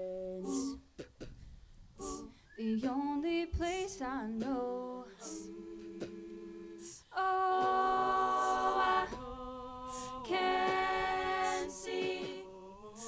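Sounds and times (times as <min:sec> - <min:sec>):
vocal group singing harmony: 0:00.0 - 0:00.8, 0:02.0 - 0:02.9, 0:03.5 - 0:13.0.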